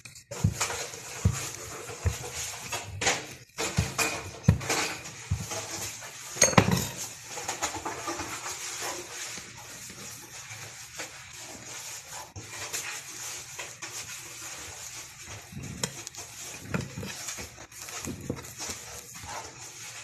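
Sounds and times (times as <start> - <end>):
hands handling pastry dough: 0.0 - 20.0.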